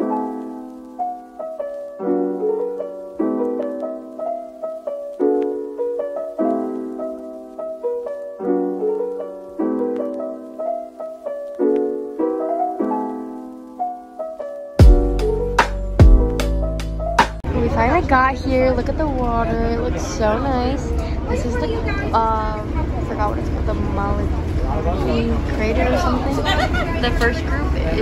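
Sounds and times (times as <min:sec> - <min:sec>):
soft piano chords: 0:00.0 - 0:28.0.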